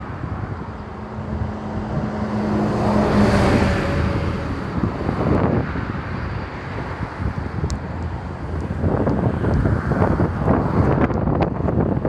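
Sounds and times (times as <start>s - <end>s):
vehicle engine hum and tyre rush: 0.0s - 12.0s
wind on microphone: 0.0s - 12.0s.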